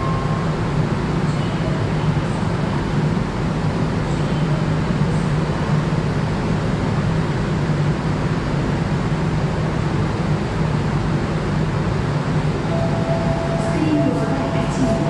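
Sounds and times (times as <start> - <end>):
constant low hum: 0.0 - 15.0
road traffic noise: 0.0 - 15.0.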